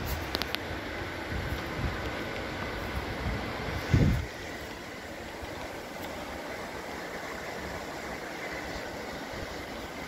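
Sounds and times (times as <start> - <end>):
steady outdoor hum: 0.0 - 10.0
wind buffeting microphone: 0.0 - 10.0.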